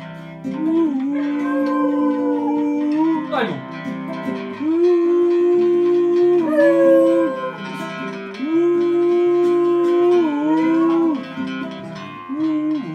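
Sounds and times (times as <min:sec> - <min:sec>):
acoustic guitar strumming: 0:00.0 - 0:12.9
small dog howling: 0:00.5 - 0:03.4, 0:04.6 - 0:11.5, 0:12.1 - 0:12.9
man singing long notes: 0:00.6 - 0:03.4, 0:04.4 - 0:11.5, 0:12.1 - 0:12.9.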